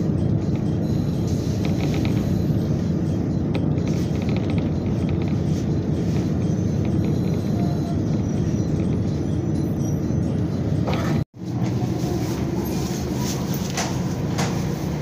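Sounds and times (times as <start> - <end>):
train engine and wheels rumbling: 0.0 - 15.0.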